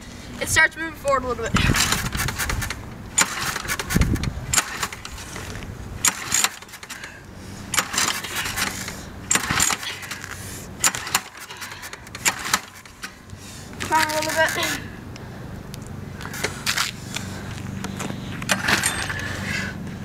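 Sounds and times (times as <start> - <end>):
lawn mower engine turning over: 1.4 - 15.0, 15.6 - 19.8
pull-cord starter rasping: 1.6 - 14.9, 16.2 - 19.8.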